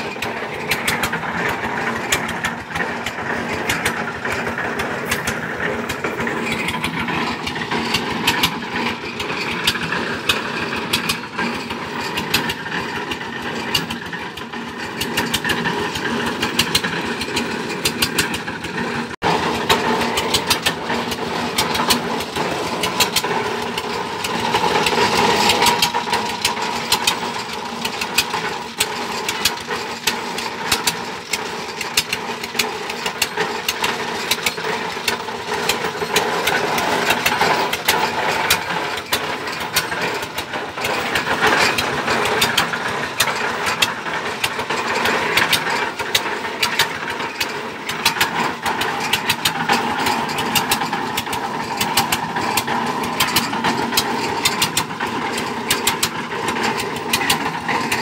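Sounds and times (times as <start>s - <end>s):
drilling rig engine clattering: 0.0s - 58.0s.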